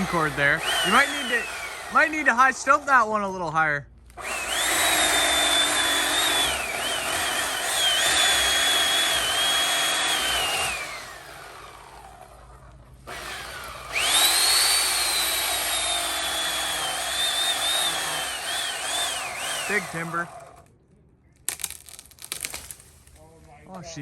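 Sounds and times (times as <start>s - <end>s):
electric chainsaw whining: 0.0s - 3.2s, 4.1s - 20.7s.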